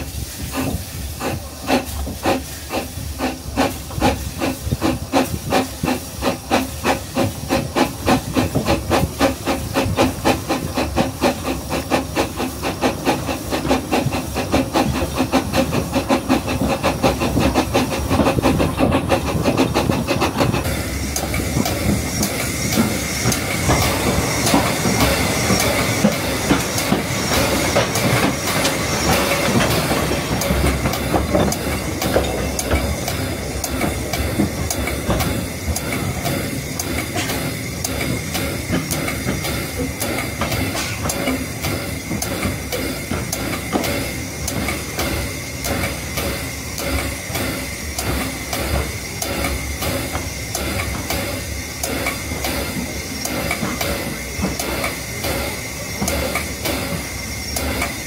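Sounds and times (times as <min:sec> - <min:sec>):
steam hissing: 0:00.0 - 0:58.0
steam locomotive chuffing: 0:00.0 - 0:58.0
wheels rattling on rails: 0:00.0 - 0:58.0.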